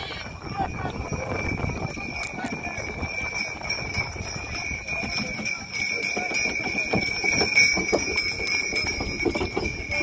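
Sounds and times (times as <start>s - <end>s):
harness bells jingling: 0.0s - 10.0s
hoofbeats clopping: 0.0s - 10.0s.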